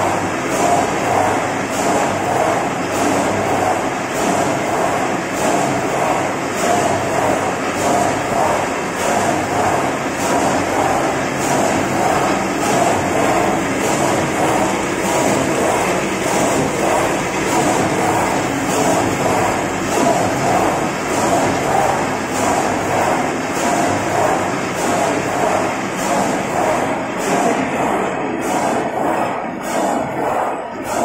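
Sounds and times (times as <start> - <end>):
machine running with pulsing noise: 0.0 - 31.0.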